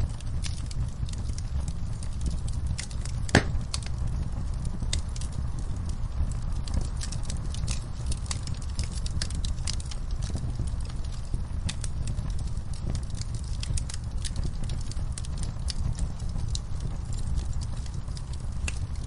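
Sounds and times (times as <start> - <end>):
fire crackling and snapping: 0.0 - 19.0
low rumble of flames: 0.0 - 19.0.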